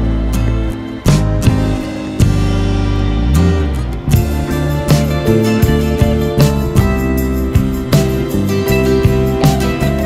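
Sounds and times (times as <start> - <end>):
instrumental music over a beat: 0.0 - 10.0.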